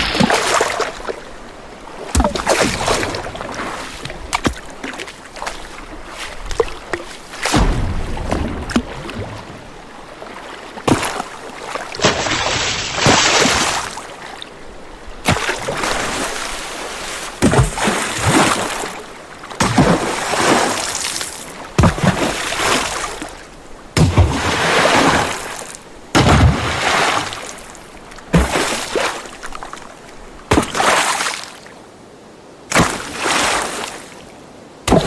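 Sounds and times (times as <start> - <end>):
water splashing and sloshing: 0.0 - 32.0, 32.6 - 35.0.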